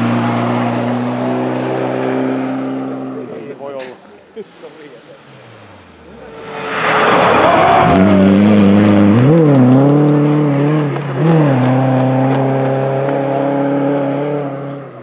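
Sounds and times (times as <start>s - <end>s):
car engine at high revs: 0.0s - 3.6s, 4.9s - 15.0s.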